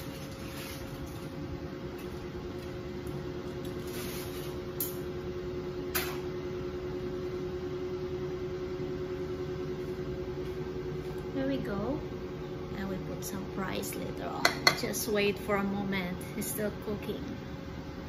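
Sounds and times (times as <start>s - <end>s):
appliance fan humming: 0.0s - 18.0s.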